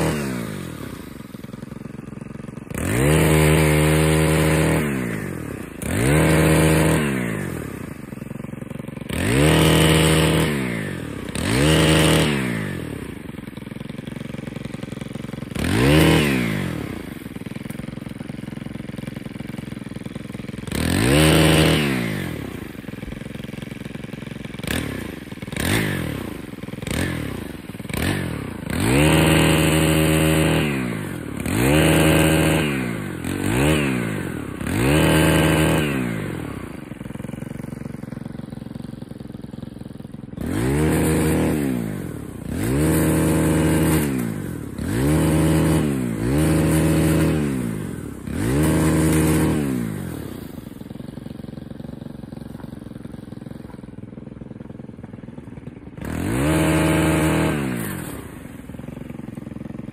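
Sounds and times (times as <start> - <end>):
small gas engine revving: 0.0 - 59.9.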